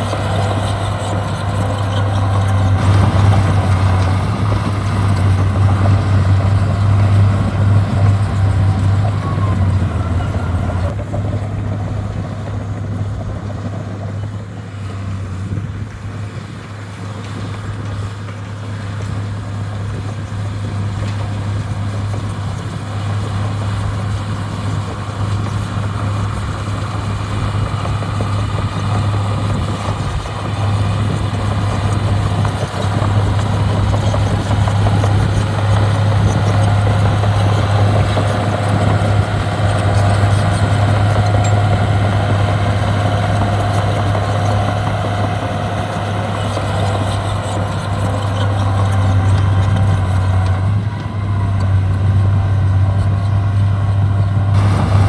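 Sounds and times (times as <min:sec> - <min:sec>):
heavy diesel engine humming: 0:00.0 - 0:55.0.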